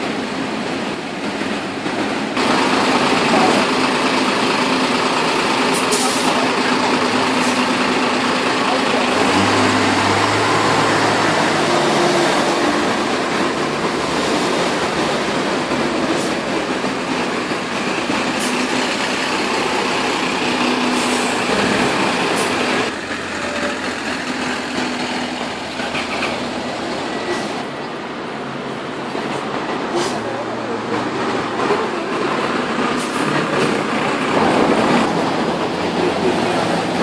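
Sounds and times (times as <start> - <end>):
bus diesel engine: 0.0 - 37.0
street traffic: 0.0 - 37.0.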